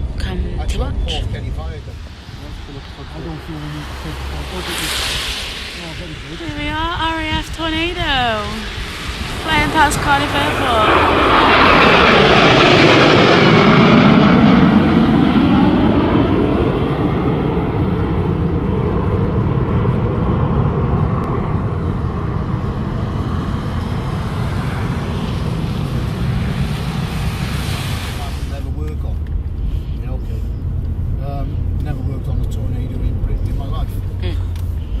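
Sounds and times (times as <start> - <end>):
jet flying past: 0.0 - 30.8.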